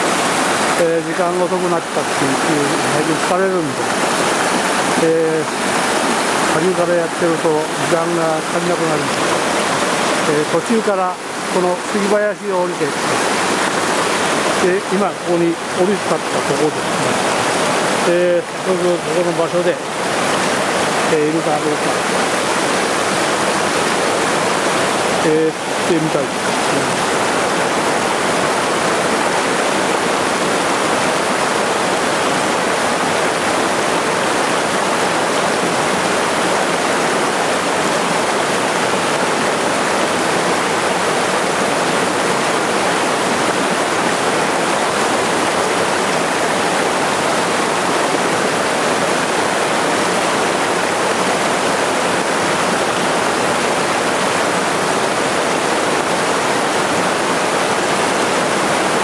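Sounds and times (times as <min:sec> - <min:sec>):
waterfall rushing over rocks: 0:00.0 - 0:59.0.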